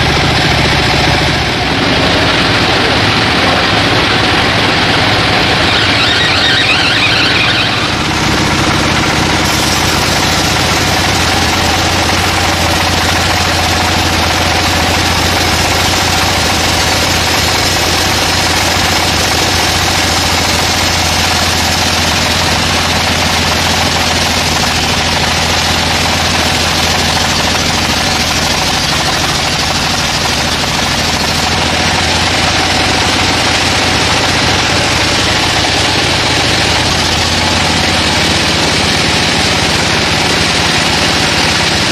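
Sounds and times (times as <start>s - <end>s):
sawmill saw droning: 0.0s - 41.9s.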